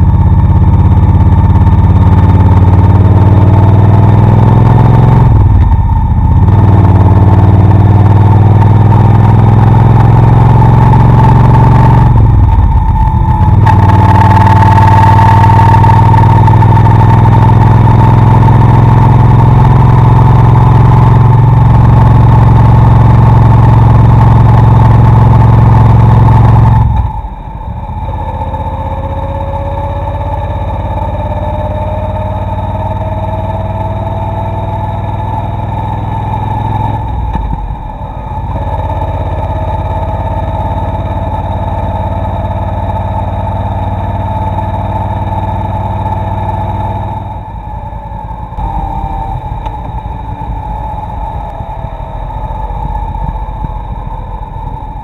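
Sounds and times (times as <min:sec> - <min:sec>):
motorcycle engine drone: 0:00.0 - 0:55.0.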